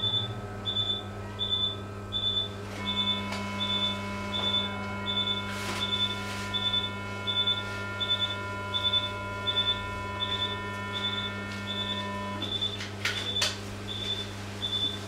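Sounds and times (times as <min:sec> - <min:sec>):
electrical hum and whine: 0:00.0 - 0:15.0.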